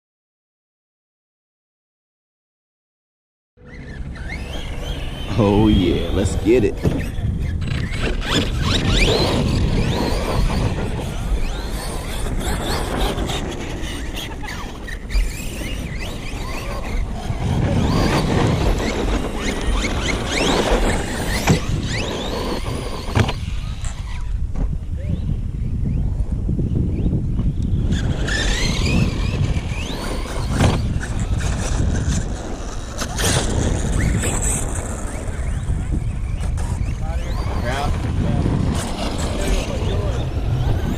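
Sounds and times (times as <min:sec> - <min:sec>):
electric toy car motor whining: 0:03.6 - 0:24.4, 0:25.0 - 0:40.9
wind noise on microphone: 0:03.6 - 0:40.9.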